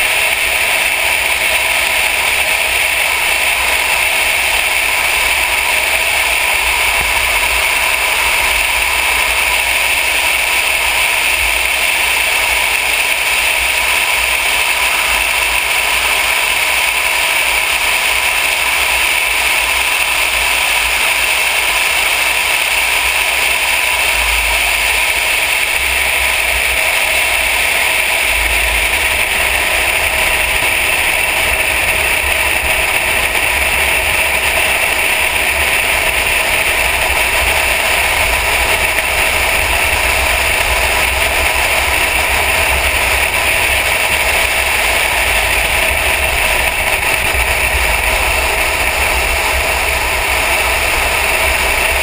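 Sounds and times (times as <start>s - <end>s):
road noise: 0.0s - 52.0s
wind rush: 0.0s - 52.0s.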